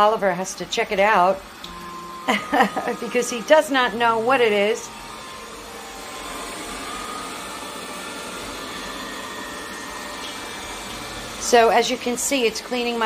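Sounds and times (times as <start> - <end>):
robot vacuum cleaner running: 0.0 - 13.0.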